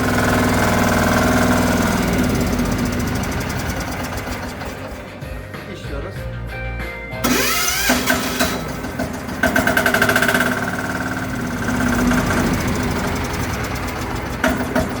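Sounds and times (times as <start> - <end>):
diesel motorcycle engine clattering: 0.0 - 6.0, 7.2 - 15.0.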